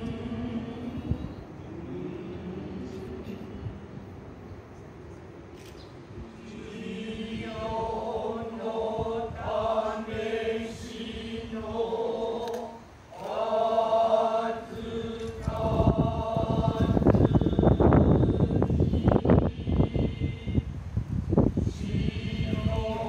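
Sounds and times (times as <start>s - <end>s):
drawn-out vocal chanting: 0.0s - 23.0s
low rumbling noise: 0.0s - 23.0s.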